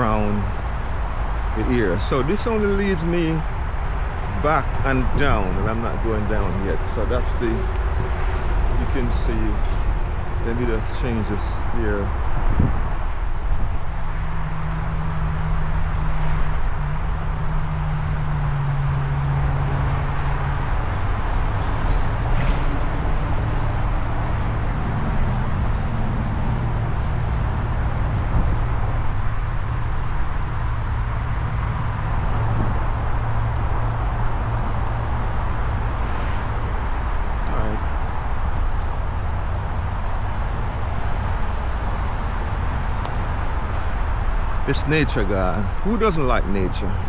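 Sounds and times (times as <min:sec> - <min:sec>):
distant engine drone: 0:00.0 - 0:47.0
steady low rumble: 0:00.0 - 0:47.0.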